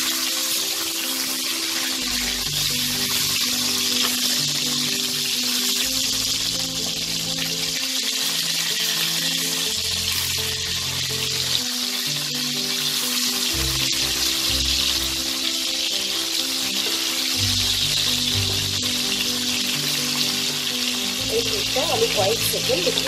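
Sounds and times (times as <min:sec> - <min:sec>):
background music held notes: 0:00.0 - 0:23.0
fish sizzling in oil: 0:00.0 - 0:23.0.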